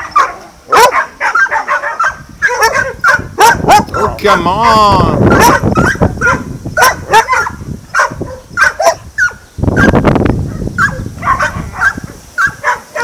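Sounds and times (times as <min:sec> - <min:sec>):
dogs barking: 0:00.0 - 0:04.2, 0:05.2 - 0:13.0.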